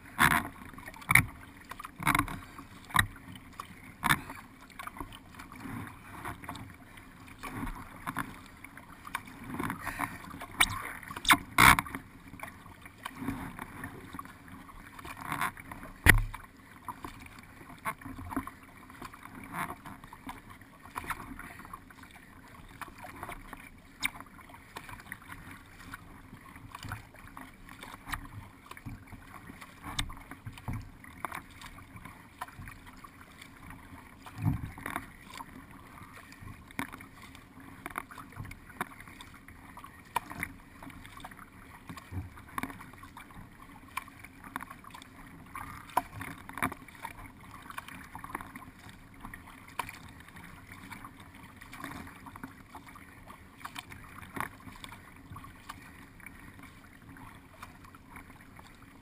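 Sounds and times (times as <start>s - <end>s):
paddle strokes splashing: 0.0s - 59.0s
water washing along hull: 0.0s - 59.0s.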